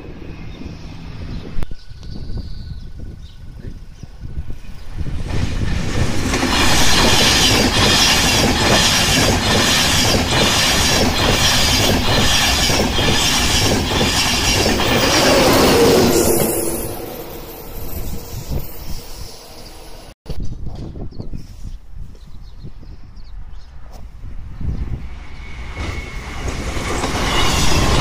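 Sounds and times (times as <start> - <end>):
express train passing at speed: 0.0 - 2.0, 2.9 - 20.2, 23.4 - 28.0.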